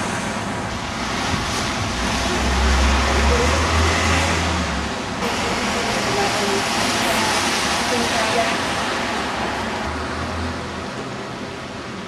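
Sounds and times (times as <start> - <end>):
low traffic rumble: 0.0 - 12.0
tyres hissing on wet road: 0.0 - 12.0.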